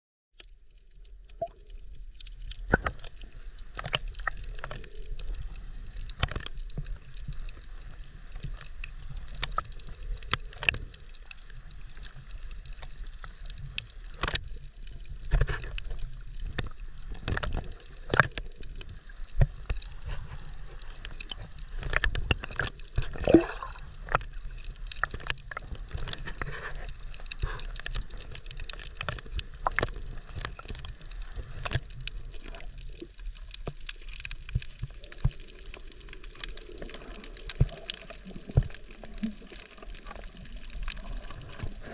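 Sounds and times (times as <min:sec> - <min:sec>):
sharp underwater clicks and pops: 0:00.4 - 0:41.9
water sloshing and gurgling: 0:00.4 - 0:41.9.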